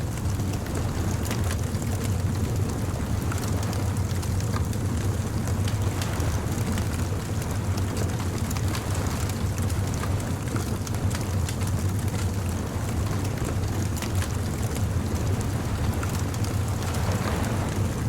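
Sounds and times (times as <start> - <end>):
bonfire crackling: 0.0 - 18.0
steady low rumble: 0.0 - 18.0.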